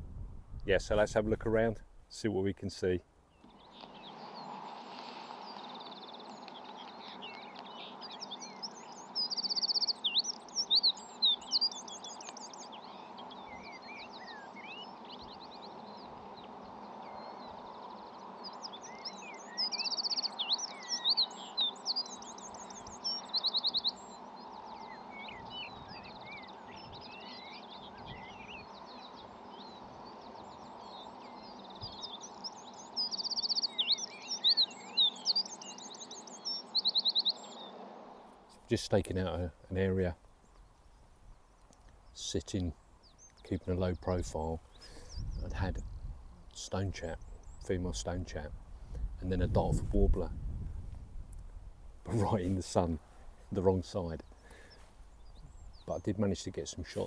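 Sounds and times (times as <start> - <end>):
songbirds singing with trills: 0.0 - 57.0
bird chirps: 3.3 - 37.8, 38.5 - 50.4, 52.0 - 57.0.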